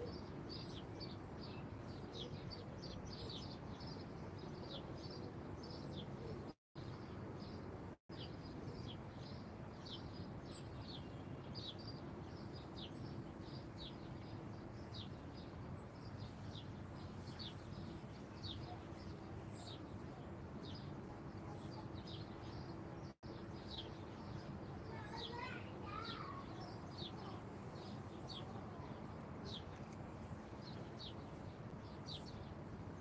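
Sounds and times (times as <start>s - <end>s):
small songbird chirping: 0.0s - 33.0s.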